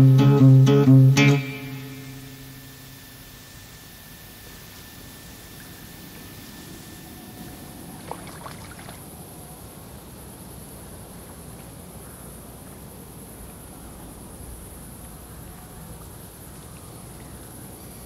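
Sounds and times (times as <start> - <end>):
constant high hiss: 0.0 - 18.0.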